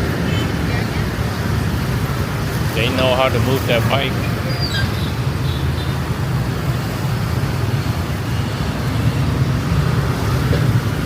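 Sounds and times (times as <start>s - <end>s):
motorbikes passing: 0.0s - 11.0s.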